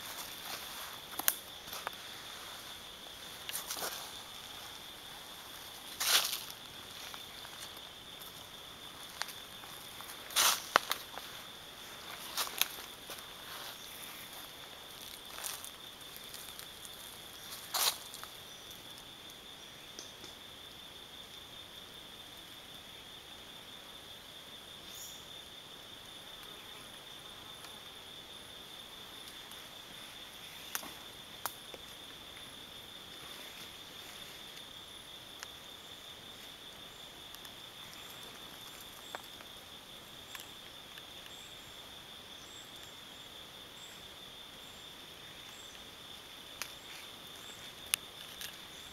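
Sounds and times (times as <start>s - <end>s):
high-pitched insect trill: 0.0s - 48.9s.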